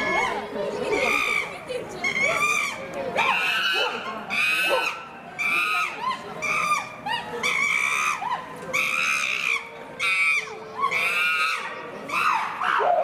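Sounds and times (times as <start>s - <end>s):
chimpanzees screaming: 0.0s - 13.0s.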